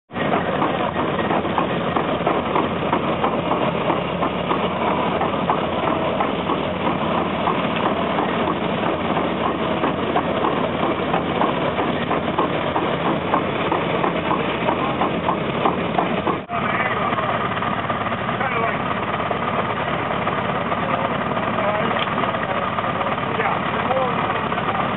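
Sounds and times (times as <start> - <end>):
truck engine running: 0.1 - 24.9.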